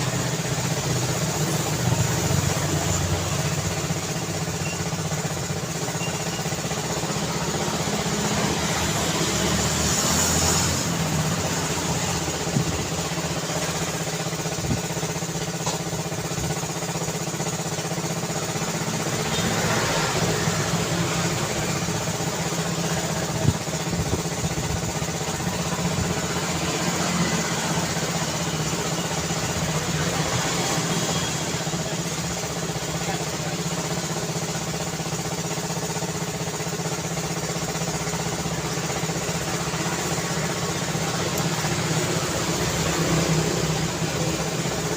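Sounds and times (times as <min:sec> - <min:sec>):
traffic engines humming: 0:00.0 - 0:44.9.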